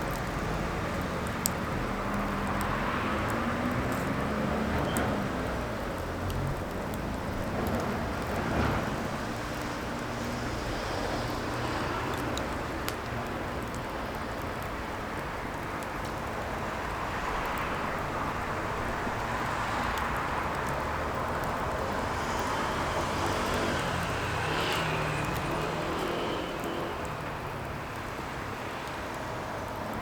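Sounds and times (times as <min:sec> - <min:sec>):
fire flames rushing: 0:00.0 - 0:30.0
firewood crackling and popping: 0:00.0 - 0:30.0.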